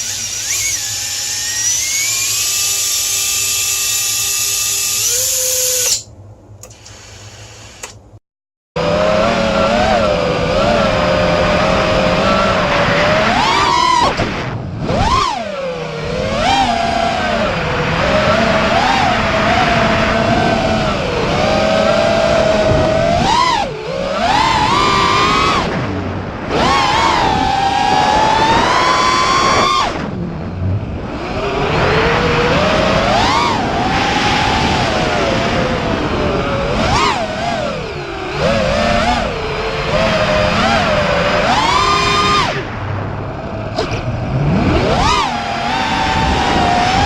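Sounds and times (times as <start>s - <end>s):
drone motors whining: 0.0s - 8.0s, 8.8s - 47.0s
wind on microphone: 8.9s - 47.0s.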